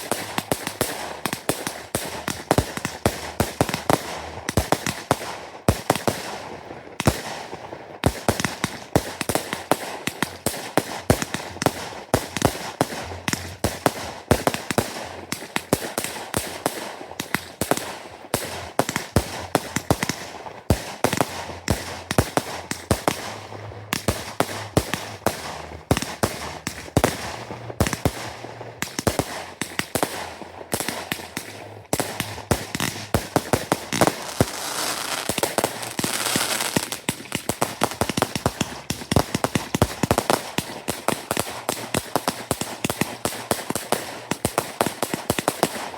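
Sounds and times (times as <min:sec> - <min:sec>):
continuous fireworks hiss: 0:00.0 - 0:45.9
fireworks bangs and pops: 0:00.0 - 0:45.9.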